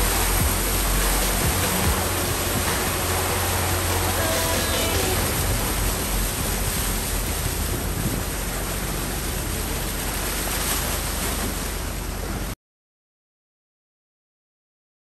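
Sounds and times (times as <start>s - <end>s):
floodwater rushing around wheel: 0.0s - 12.6s
low rumble: 0.0s - 12.6s.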